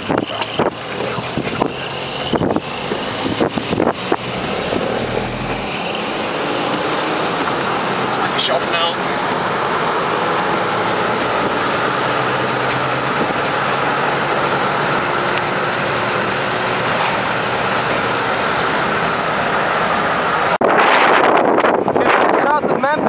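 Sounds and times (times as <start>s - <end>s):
car engine hum: 0.0s - 22.0s
road and tyre noise: 0.0s - 23.0s.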